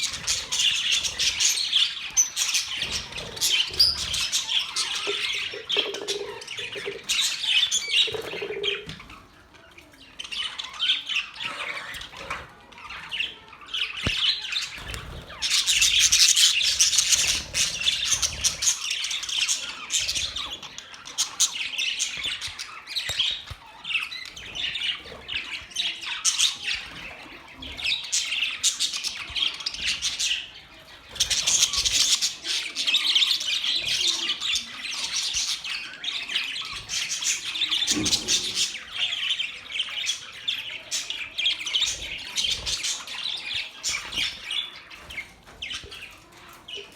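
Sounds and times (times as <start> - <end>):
budgerigars chattering and squawking: 0.0 - 46.9.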